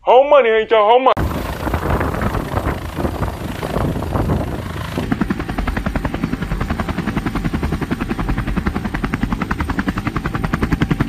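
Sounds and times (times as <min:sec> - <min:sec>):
helicopter rotor beating: 0:01.2 - 0:11.0.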